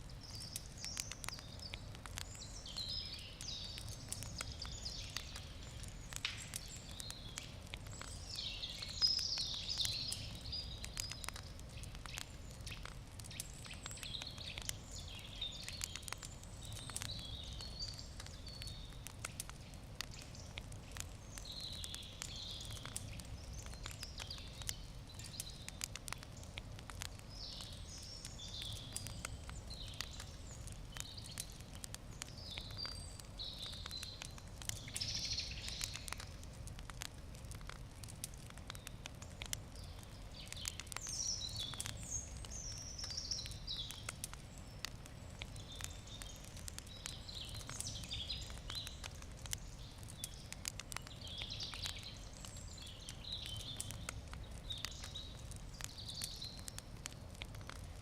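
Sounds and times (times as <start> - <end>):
campfire crackling and popping: 0.0 - 58.0
birds chirping: 0.2 - 36.2, 38.6 - 56.8.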